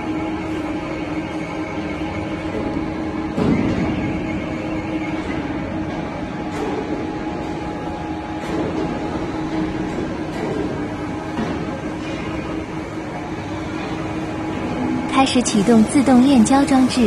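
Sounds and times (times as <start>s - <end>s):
mill motor droning: 0.0s - 17.0s.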